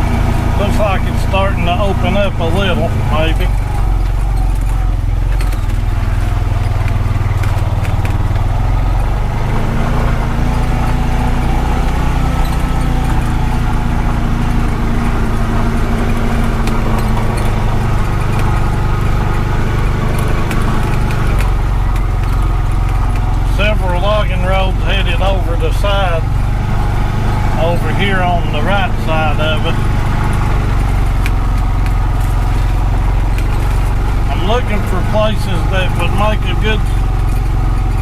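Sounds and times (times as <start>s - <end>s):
engine low drone: 0.0s - 38.0s.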